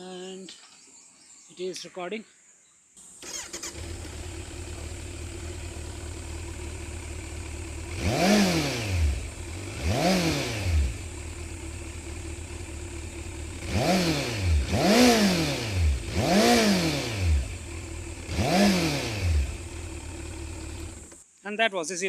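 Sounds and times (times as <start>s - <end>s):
motorcycle engine idling and revving: 3.2s - 21.2s.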